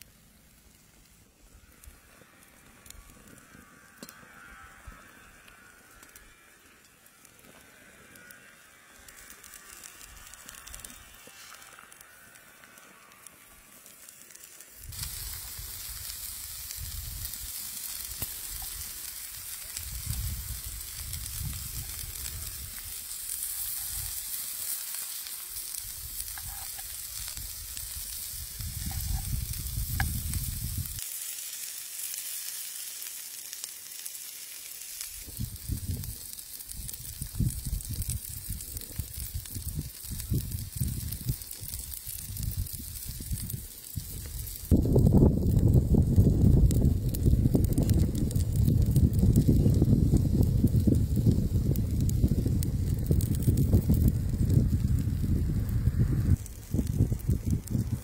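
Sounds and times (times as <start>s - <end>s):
food sizzling in a pan: 7.1s - 58.0s.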